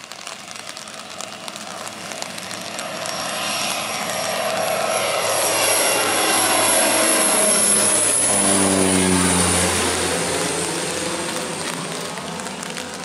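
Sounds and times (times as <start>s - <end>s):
turboprop plane engine: 0.0s - 13.0s
high turbine whine: 0.1s - 13.0s.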